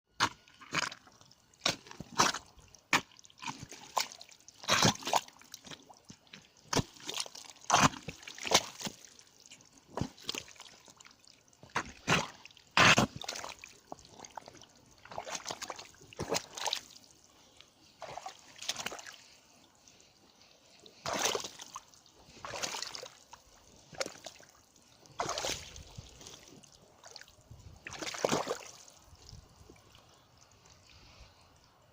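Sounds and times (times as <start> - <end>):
boots squelching in mud: 0.2 - 30.8.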